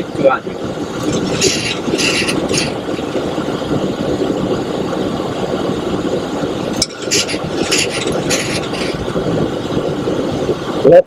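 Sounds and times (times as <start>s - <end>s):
cockpit airflow and engine noise: 0.0s - 11.0s.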